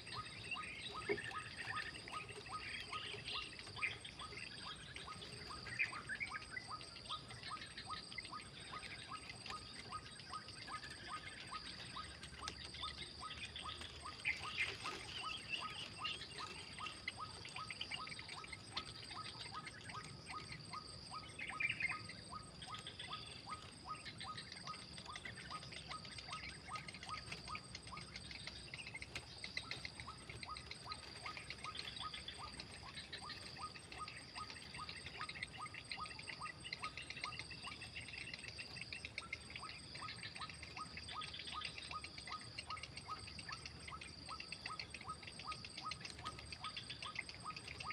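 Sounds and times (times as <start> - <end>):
insects chirring: 0.0 - 47.9.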